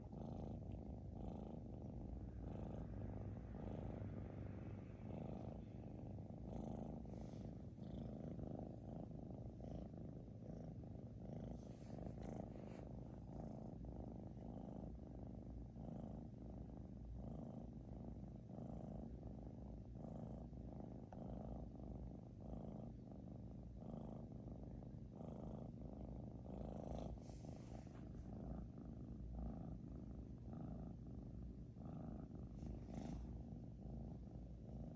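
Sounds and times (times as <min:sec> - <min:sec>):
cat snoring: 0:00.0 - 0:34.9.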